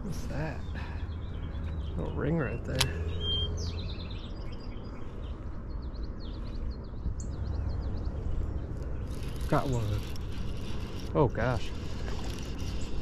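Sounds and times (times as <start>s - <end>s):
small bird chirping: 0.1s - 13.0s.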